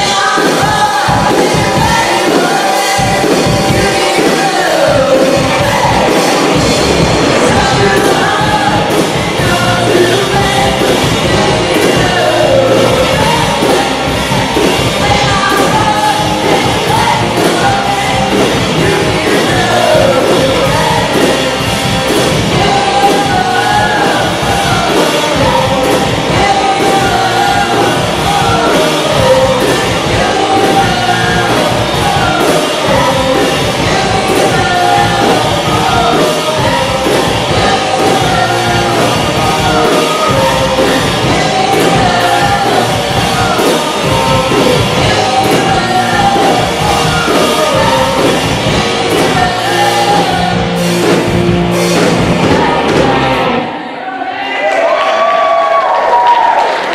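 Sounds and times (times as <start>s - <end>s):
woman singing: 0.0s - 6.5s, 7.4s - 51.2s
drum kit: 0.0s - 53.8s
bass guitar: 0.0s - 53.9s
electric guitars: 0.0s - 56.9s.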